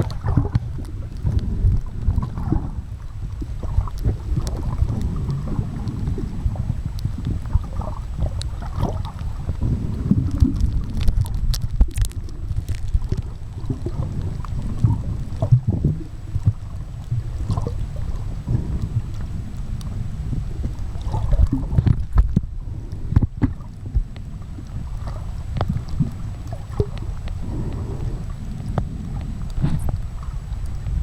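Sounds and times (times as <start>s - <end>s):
small clicks and splashes: 0.0s - 27.4s
moving water rumbling: 0.0s - 31.0s.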